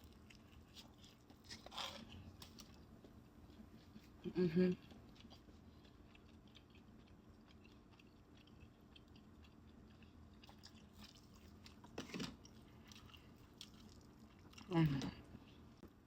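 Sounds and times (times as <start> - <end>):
chewing fried food: 0.0 - 16.0.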